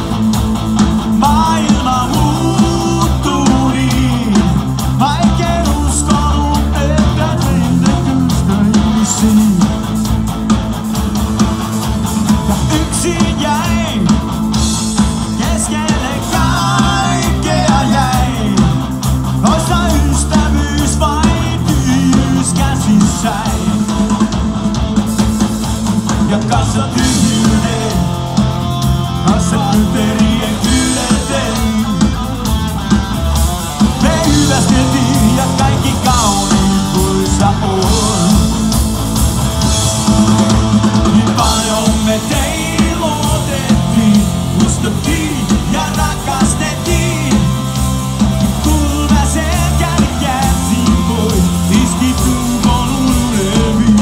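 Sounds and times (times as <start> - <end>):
bass guitar: 0.0 - 54.0
drum kit: 0.0 - 54.0
electric guitar: 0.0 - 54.0
man singing: 1.0 - 10.1, 12.3 - 24.2, 26.1 - 38.8, 40.1 - 54.0.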